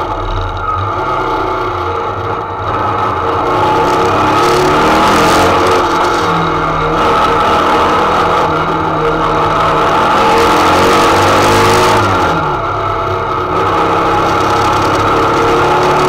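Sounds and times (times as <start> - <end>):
race engine accelerating: 0.0 - 16.0.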